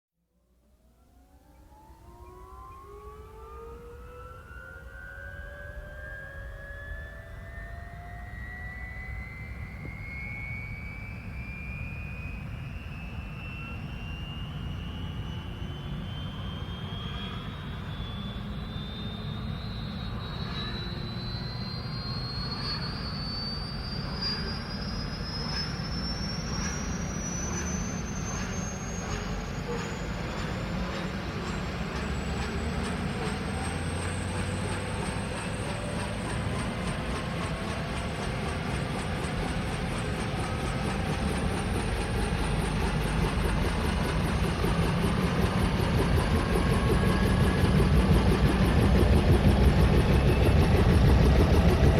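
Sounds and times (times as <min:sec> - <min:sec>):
helicopter turbine whine: 0:00.5 - 0:51.9.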